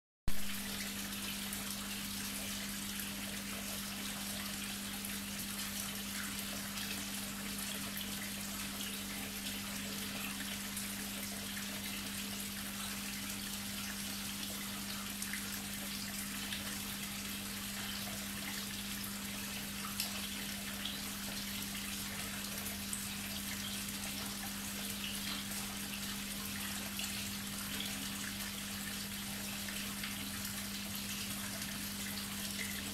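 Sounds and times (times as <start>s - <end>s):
pond water trickling and splashing: 0.3s - 32.9s.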